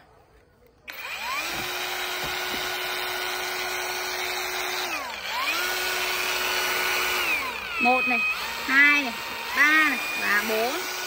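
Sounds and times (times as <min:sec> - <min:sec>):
angle grinder motor whine: 0:00.9 - 0:11.0.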